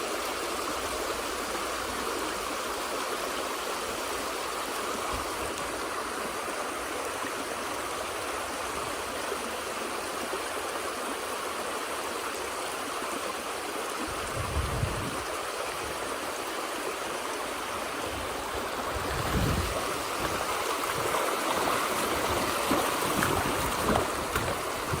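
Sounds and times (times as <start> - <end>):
stream flowing: 0.0 - 25.0.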